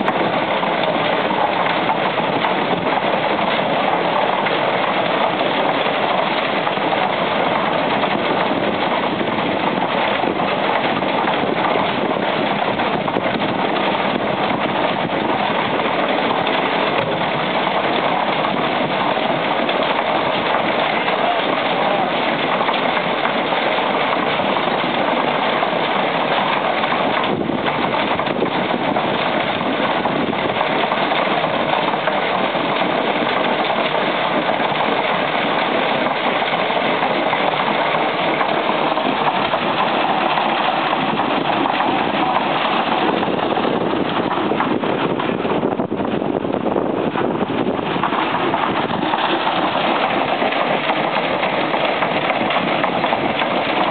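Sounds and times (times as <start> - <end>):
concrete mixer drum churning: 0.0 - 53.9
tractor engine running: 0.0 - 53.9.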